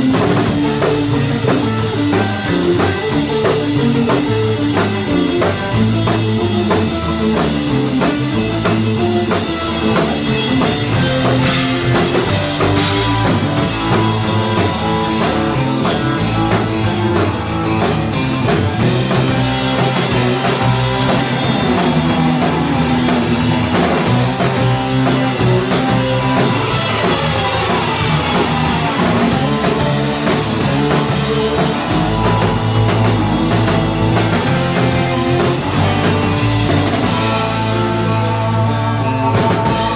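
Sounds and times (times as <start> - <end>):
bass guitar: 0.0 - 39.9
drum kit: 0.0 - 39.9
electric guitars playing: 0.0 - 39.9.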